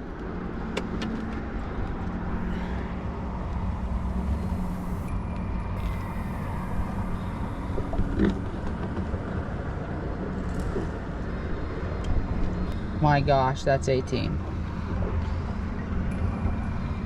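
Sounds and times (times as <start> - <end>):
traffic rumble on bridge: 0.0 - 17.0.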